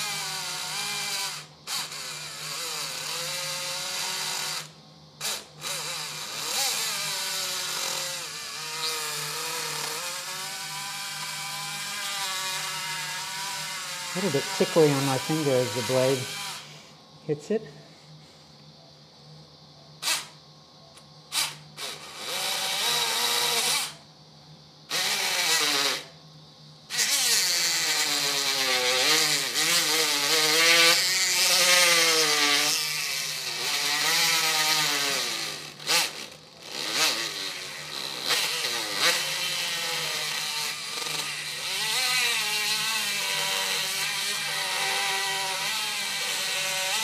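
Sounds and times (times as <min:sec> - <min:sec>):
bone saw whining: 0:00.0 - 0:17.6, 0:26.9 - 0:47.0.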